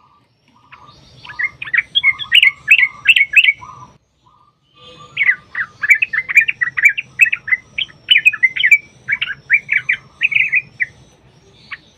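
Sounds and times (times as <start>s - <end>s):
bird chattering song: 0.0s - 11.9s.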